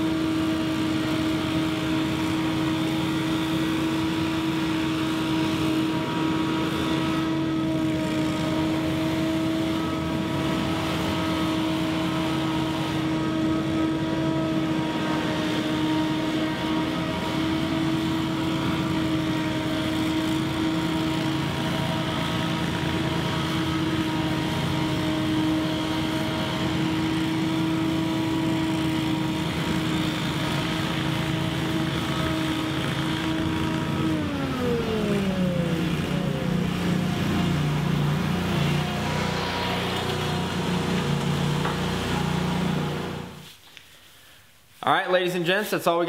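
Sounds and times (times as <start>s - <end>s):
leaf blowers running: 0.0s - 44.4s.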